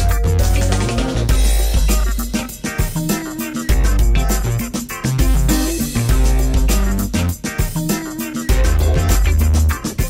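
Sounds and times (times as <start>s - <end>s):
music with bass and drums: 0.0s - 10.0s.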